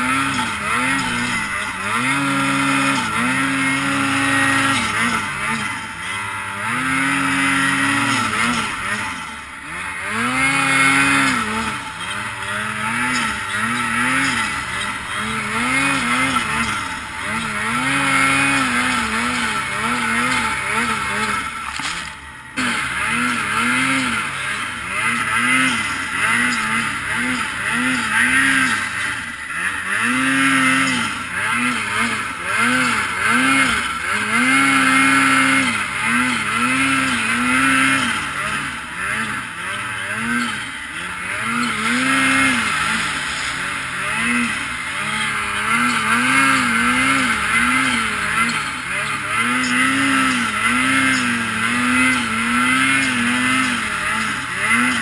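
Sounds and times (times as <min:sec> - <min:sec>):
snowmobile engine revving: 0:00.0 - 0:55.0
track and snow rushing: 0:00.0 - 0:55.0.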